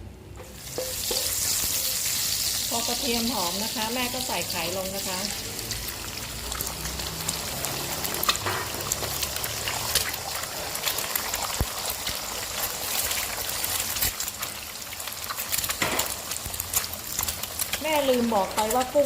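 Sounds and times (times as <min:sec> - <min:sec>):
egg sizzling in hot oil: 0:00.5 - 0:19.0.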